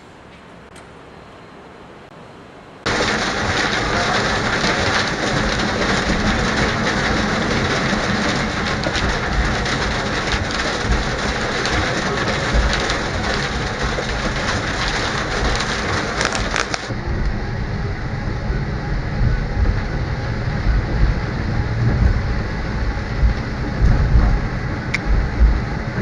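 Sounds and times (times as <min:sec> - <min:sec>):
heavy rain on windscreen and roof: 0:02.8 - 0:26.0.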